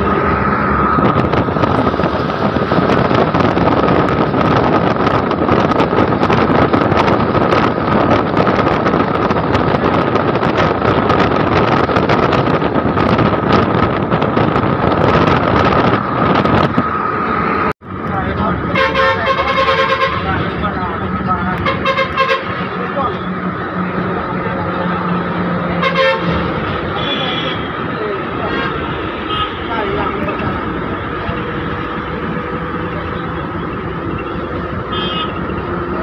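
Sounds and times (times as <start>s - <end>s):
wind and road noise: 0.0s - 36.0s.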